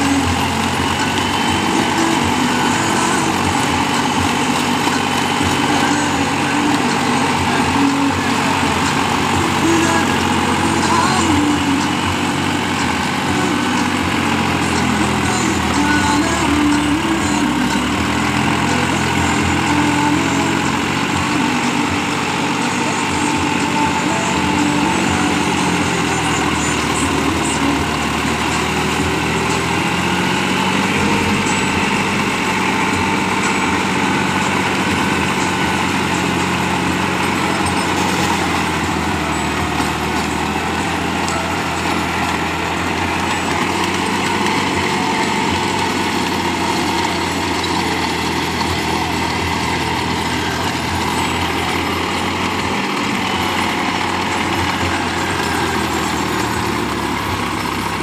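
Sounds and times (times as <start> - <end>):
rotavator churning soil: 0.0 - 58.0
tractor diesel engine running: 0.0 - 58.0.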